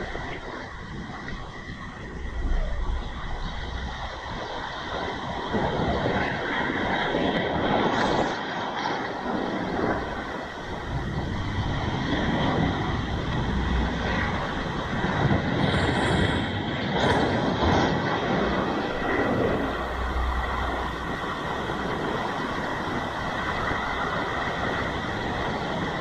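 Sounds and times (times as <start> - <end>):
waves breaking on rocky shore: 0.0 - 26.0.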